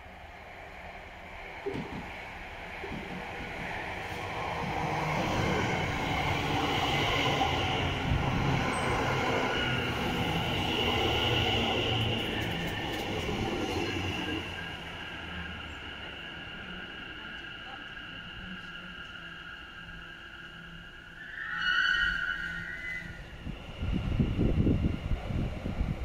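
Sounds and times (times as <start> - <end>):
electric train rumble: 0.0 - 26.0
train high whine: 0.0 - 26.0.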